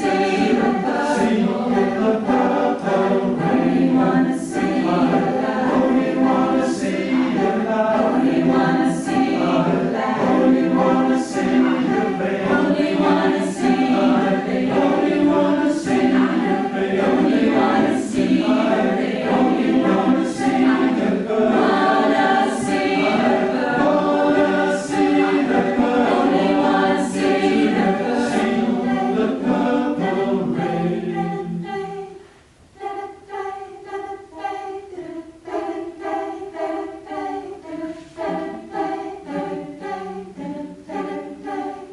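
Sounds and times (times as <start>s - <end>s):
choir singing a cappella: 0.0s - 41.9s
soft high hiss: 0.0s - 41.9s.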